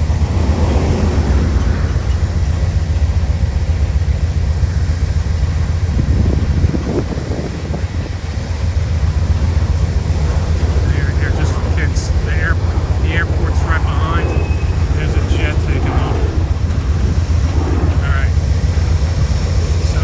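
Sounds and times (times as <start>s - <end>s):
diesel locomotive rumbling: 0.0s - 20.0s.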